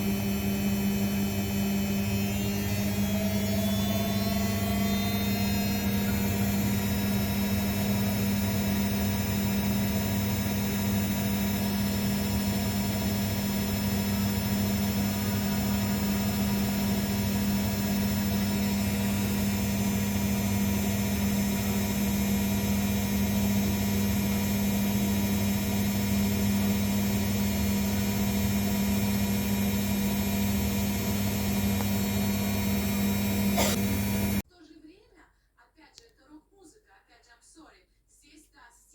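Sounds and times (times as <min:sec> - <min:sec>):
washing machine hum and whine: 0:00.0 - 0:34.4.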